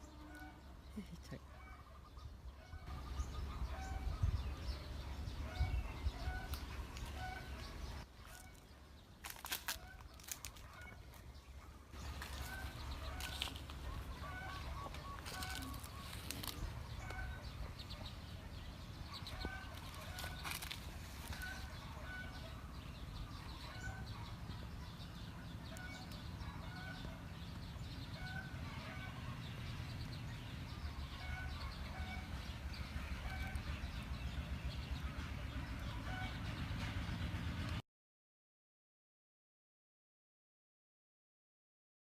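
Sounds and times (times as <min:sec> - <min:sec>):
birds calling: 0:00.0 - 0:37.8
low steady rumble: 0:00.0 - 0:37.8.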